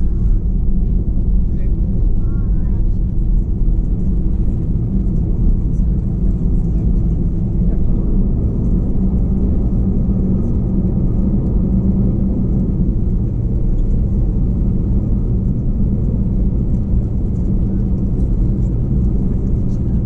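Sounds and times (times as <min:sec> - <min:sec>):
airplane cabin engine rumble: 0:00.0 - 0:20.0
constant hum: 0:00.0 - 0:20.0.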